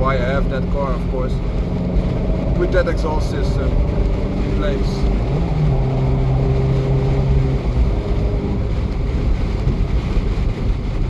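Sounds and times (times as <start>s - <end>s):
low exhaust drone: 0.0s - 11.0s
wind and road noise: 0.0s - 11.0s.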